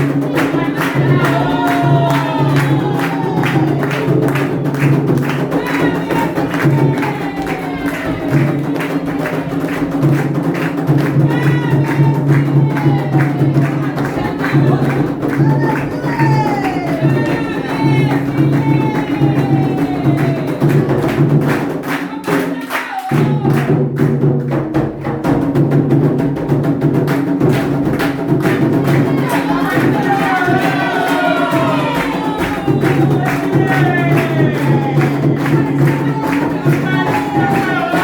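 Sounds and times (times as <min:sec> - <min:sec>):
people singing: 0:00.0 - 0:21.4, 0:22.0 - 0:23.8, 0:28.2 - 0:38.0
hand drums playing rhythm: 0:00.0 - 0:38.0.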